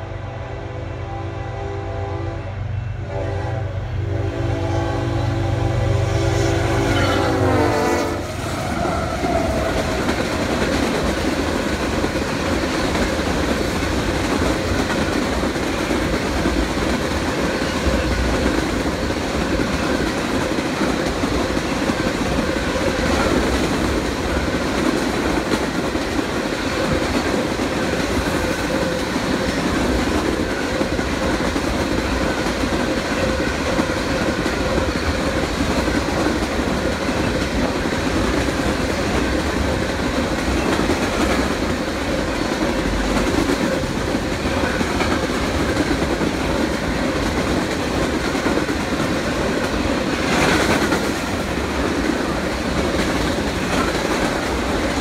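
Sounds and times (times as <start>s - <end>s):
freight train rumbling past: 0.0s - 55.0s
train wheels clickety-clack: 6.3s - 55.0s.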